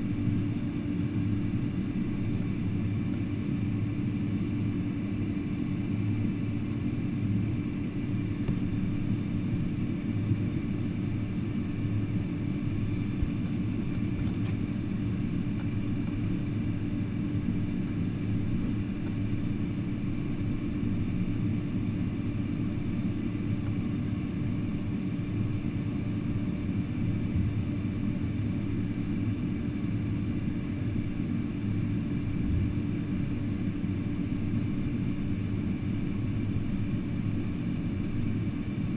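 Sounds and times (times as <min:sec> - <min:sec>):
airplane engine rumble: 0:00.0 - 0:38.9.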